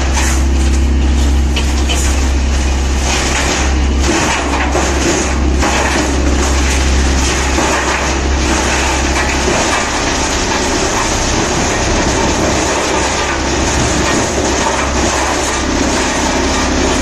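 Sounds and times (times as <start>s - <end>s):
wood chipper clattering: 0.0s - 17.0s.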